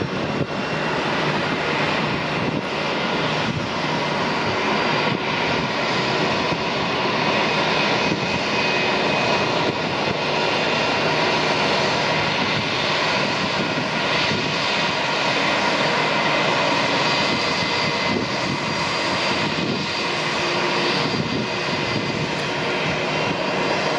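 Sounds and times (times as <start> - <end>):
jet engines running: 0.0 - 23.9.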